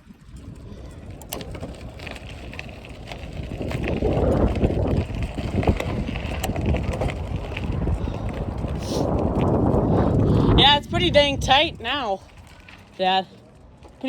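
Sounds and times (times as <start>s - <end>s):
wind buffeting microphone: 0.0s - 13.8s
bicycle rolling rumble: 0.0s - 14.0s.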